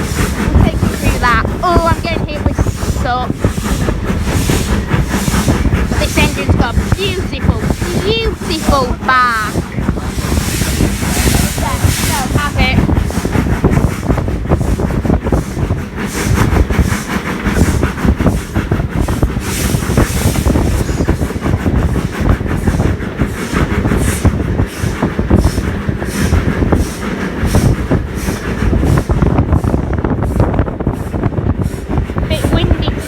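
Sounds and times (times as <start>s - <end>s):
coaches rumbling on track: 0.0s - 33.0s
steam locomotive exhaust chuffing: 0.0s - 33.0s.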